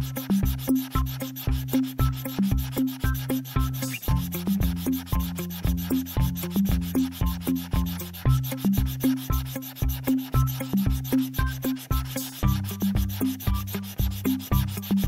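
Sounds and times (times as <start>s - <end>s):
background music with bass line: 0.0s - 15.0s
pen tip scratching paper: 0.0s - 15.0s.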